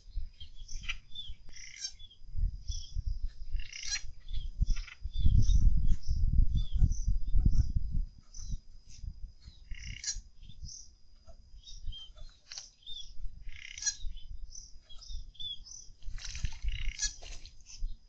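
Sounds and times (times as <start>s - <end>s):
wild birds chirping: 0.0s - 8.7s, 9.4s - 18.0s.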